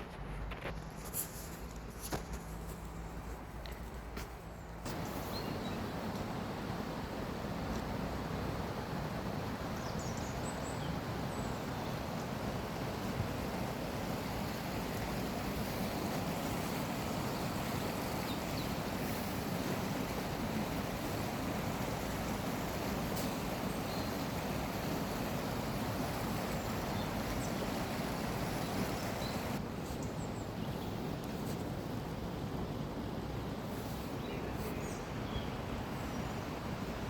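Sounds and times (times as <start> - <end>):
waves and moving water: 0.5 - 37.0.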